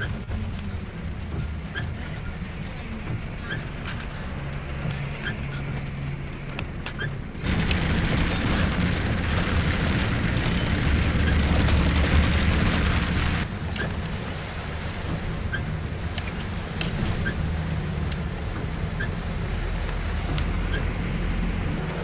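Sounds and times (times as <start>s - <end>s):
bus engine and road noise: 0.0s - 22.0s
loud rumble and rushing noise: 0.0s - 22.0s.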